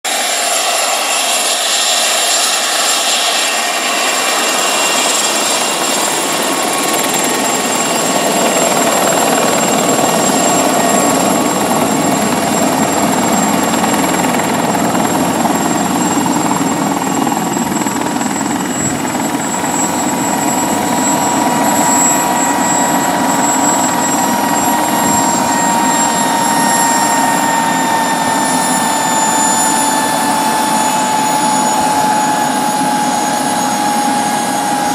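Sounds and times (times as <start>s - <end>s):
helicopter rotor noise: 0.0s - 34.9s
model helicopter turbine whine: 0.1s - 34.9s.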